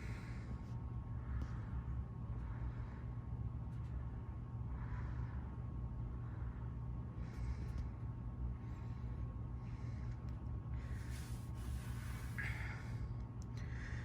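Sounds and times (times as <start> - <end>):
ceiling fan motor humming: 0.0 - 14.0.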